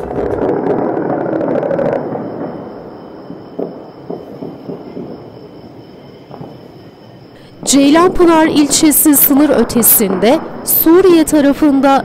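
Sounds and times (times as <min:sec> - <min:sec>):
distant heavy weapons fire: 0:00.0 - 0:06.6, 0:07.4 - 0:11.6.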